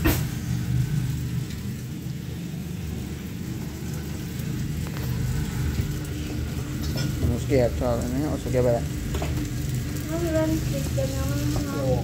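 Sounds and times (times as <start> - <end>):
low rumble: 0.0 - 12.0
mince sizzling in a pan: 0.0 - 12.0.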